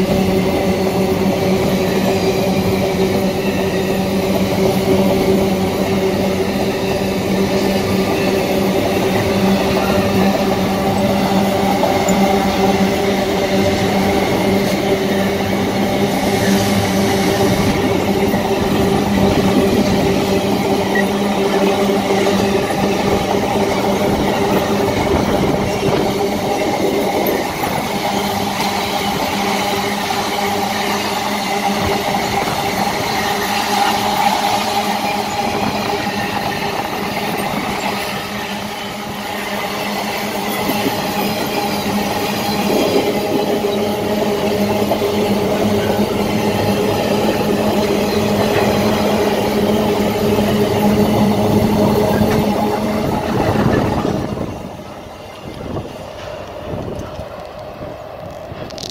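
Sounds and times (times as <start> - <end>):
train wheels rolling on rails: 0.0 - 58.9.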